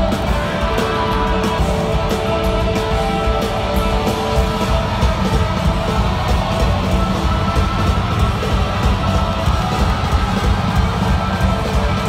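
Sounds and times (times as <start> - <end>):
electric guitar: 0.0 - 12.0
live rock band playing: 0.0 - 12.0.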